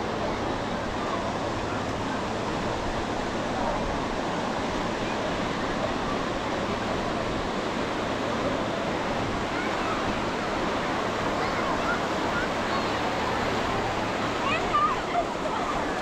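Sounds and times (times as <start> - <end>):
crowd voices and calls: 0.0 - 16.0
ocean surf: 0.0 - 16.0.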